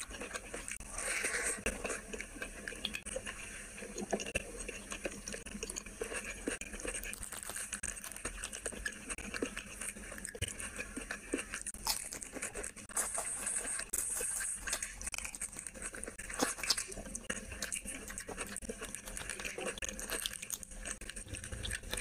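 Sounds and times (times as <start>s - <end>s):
chewing: 0.0s - 22.0s.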